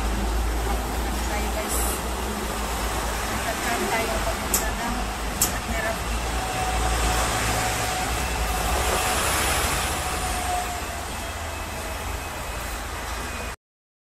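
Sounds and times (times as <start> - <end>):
tram rumble and rattle: 0.0 - 13.6.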